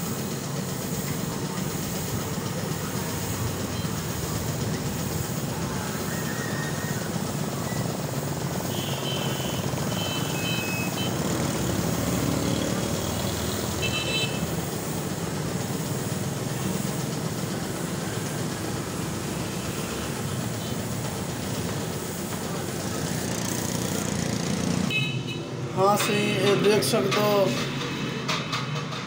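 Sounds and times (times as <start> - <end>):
spray gun hissing: 0.0 - 26.5
air compressor running: 0.0 - 29.0.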